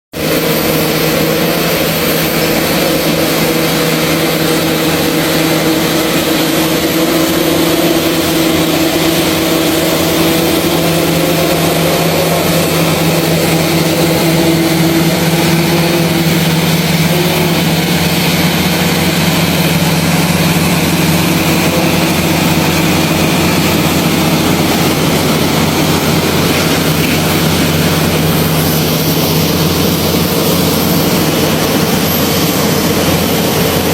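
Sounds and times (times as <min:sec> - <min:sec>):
engine whine: 0:00.1 - 0:33.9
heavy diesel engines droning: 0:00.2 - 0:33.9.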